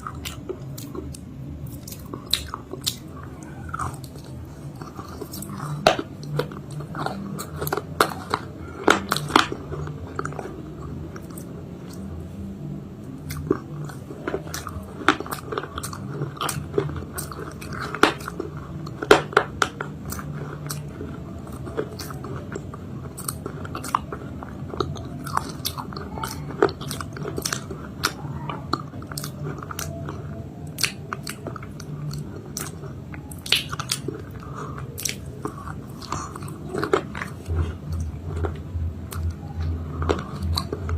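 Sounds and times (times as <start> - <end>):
chewing crunchy cake: 0.0 - 40.9
low hum: 0.0 - 40.9.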